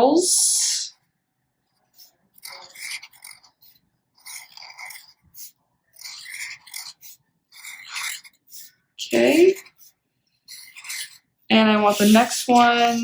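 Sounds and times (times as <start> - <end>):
marker scratching on paper: 1.8 - 13.0.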